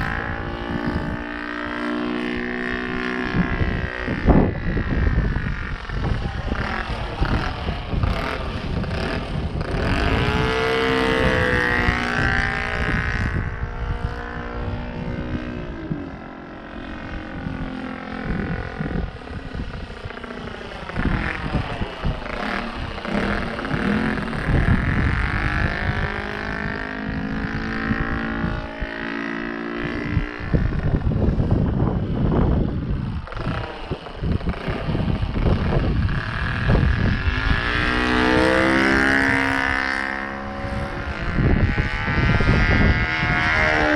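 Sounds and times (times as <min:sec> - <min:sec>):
model plane engine: 0:00.0 - 0:43.9
wind rumble on microphone: 0:00.0 - 0:43.9.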